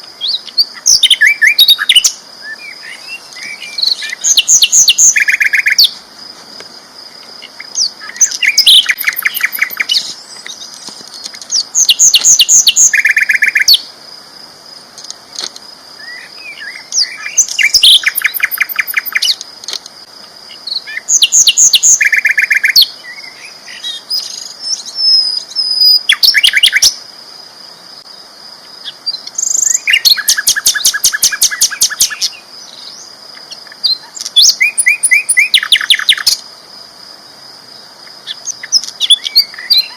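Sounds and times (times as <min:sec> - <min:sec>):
flycatcher singing: 0:00.2 - 0:06.0, 0:07.0 - 0:13.9, 0:15.9 - 0:19.8, 0:20.4 - 0:27.0, 0:28.7 - 0:36.5, 0:38.2 - 0:39.9.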